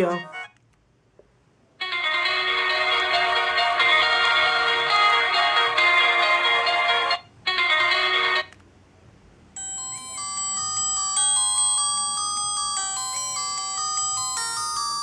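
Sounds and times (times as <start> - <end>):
multi-note ringtone melody: 0.0 - 0.6, 1.8 - 8.5, 9.6 - 15.0.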